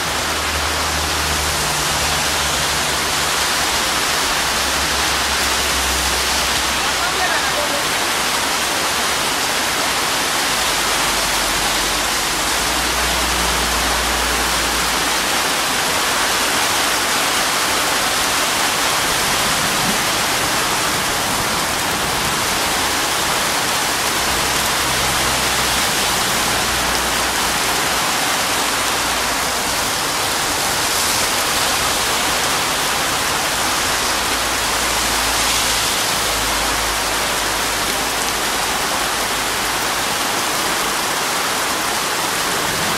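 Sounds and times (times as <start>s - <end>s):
heavy rain pouring on road: 0.0s - 42.9s.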